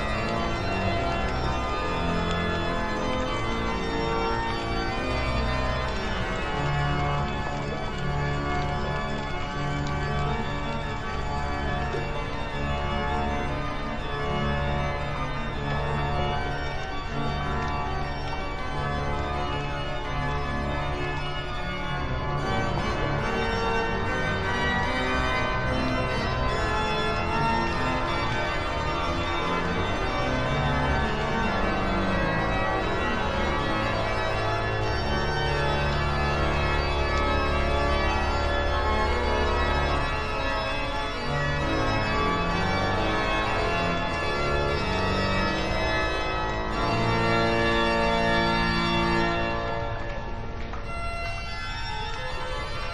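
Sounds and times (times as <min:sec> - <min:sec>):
organ chords: 0:00.0 - 0:52.9.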